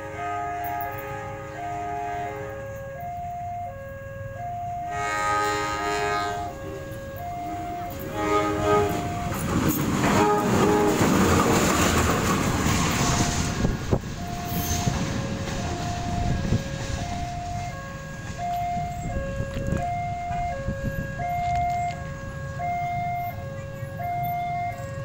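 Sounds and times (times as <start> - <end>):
locomotive horn: 0.0 - 3.4, 4.6 - 11.9, 12.9 - 25.0
locomotive engine and wheels rumbling: 0.0 - 25.0
level-crossing warning chime: 0.6 - 10.0, 13.2 - 25.0.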